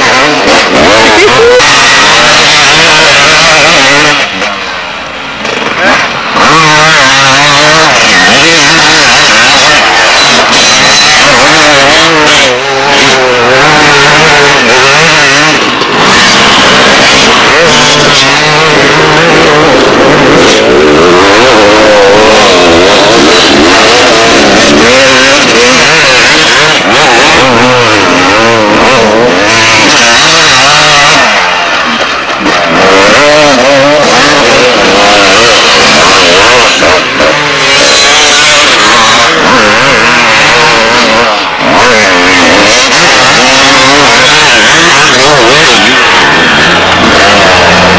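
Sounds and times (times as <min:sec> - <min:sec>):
two-stroke engine revving: 0:00.0 - 0:47.9.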